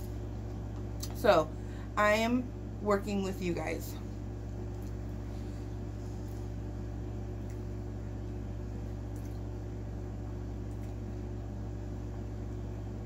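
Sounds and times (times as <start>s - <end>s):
low electrical hum and hiss: 0.0s - 13.0s.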